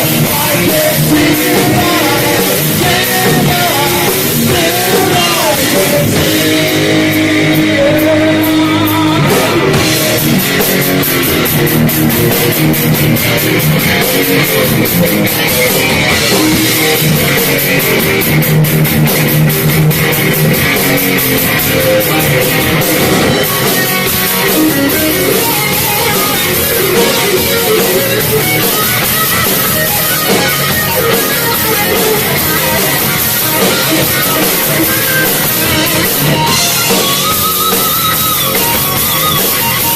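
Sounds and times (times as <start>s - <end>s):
drum kit beat: 0.0s - 39.9s
metal guitars playing: 0.0s - 39.9s.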